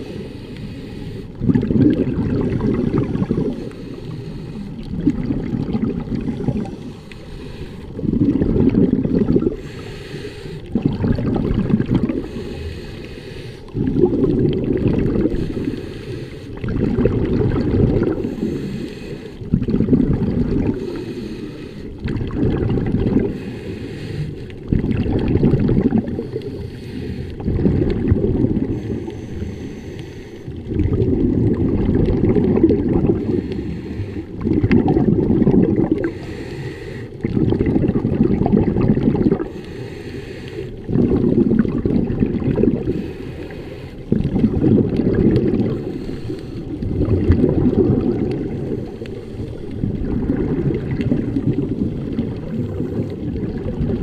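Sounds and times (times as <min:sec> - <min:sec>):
underwater exhaust bubbles: 0:00.0 - 0:54.0.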